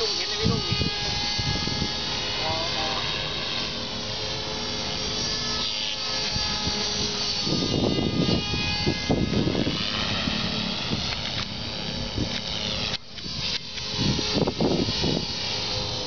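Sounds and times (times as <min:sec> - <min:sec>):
rc helicopter motor whine: 0:00.0 - 0:16.0.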